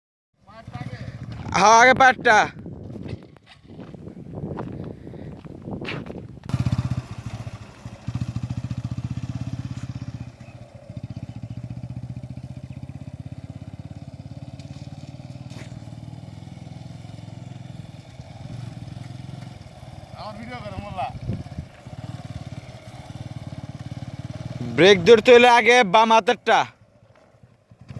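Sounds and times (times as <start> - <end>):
motorcycle engine idling: 0.4 - 1.6, 6.4 - 27.9.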